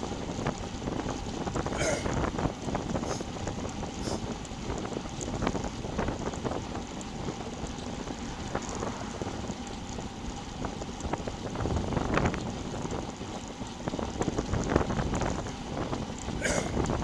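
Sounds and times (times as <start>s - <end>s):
bicycle clicks and rattles: 0.0s - 17.0s
wind buffeting microphone: 0.0s - 17.0s.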